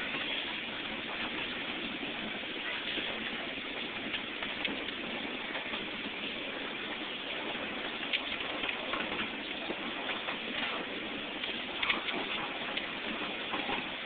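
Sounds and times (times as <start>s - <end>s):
miniature train cars rattling: 0.0s - 14.0s
wheels clicking over rails: 0.0s - 14.0s.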